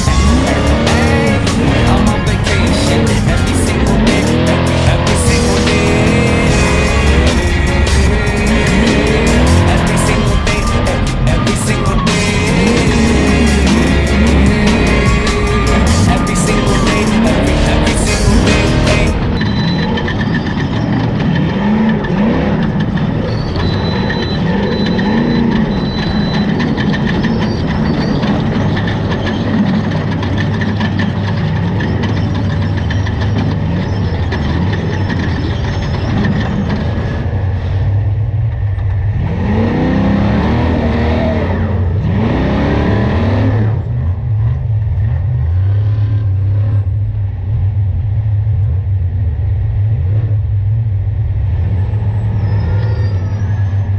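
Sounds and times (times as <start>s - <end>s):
truck engine running hard: 0.0s - 53.9s.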